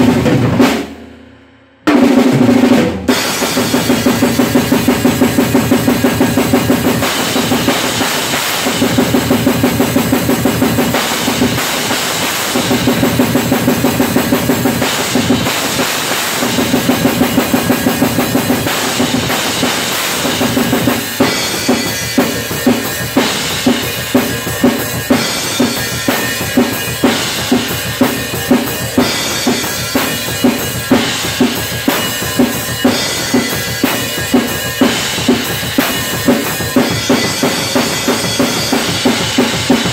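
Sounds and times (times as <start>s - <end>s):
drum kit playing: 0.0s - 39.9s
ringing cymbals: 3.1s - 39.9s.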